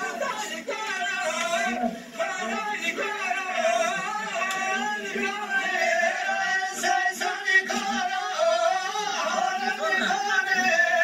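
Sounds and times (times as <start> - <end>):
men singing a dance song: 0.0 - 11.0.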